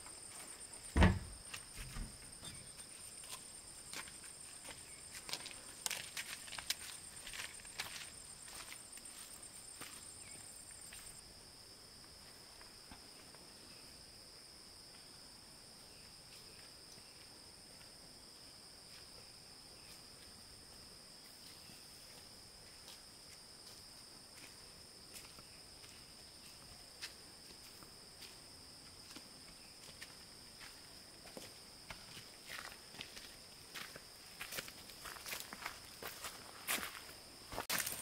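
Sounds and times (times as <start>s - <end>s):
faint insect drone: 0.0s - 38.0s.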